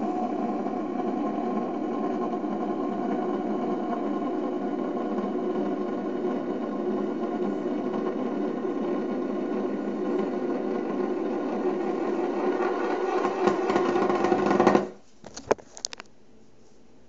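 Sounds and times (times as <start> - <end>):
screwdriver spinning on wood: 0.2 - 15.0.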